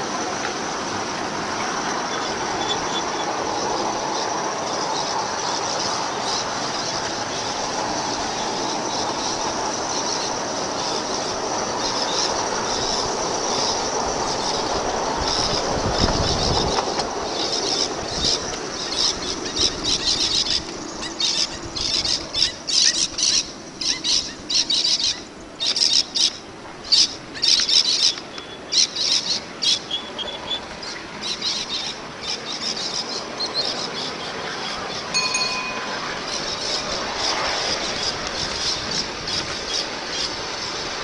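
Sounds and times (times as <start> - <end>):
steel wheels squealing on rails: 0.0 - 41.0.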